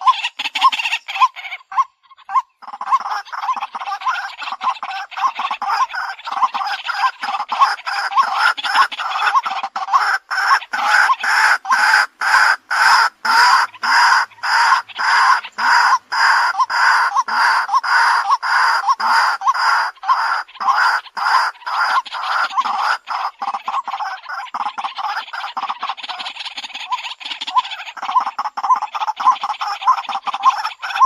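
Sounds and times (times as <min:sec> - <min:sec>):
bird calling harsh notes: 0:00.0 - 0:31.0.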